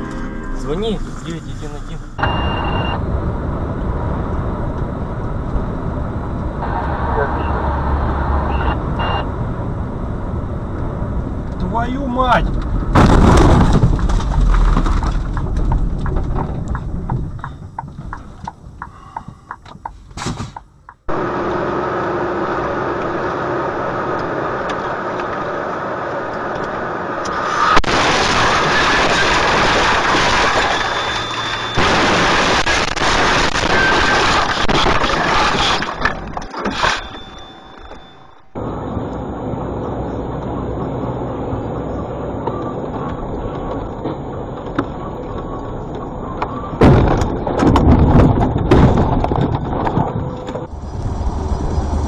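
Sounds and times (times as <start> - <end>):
car engine: 0.0 - 52.0
road and tyre noise: 0.0 - 52.0.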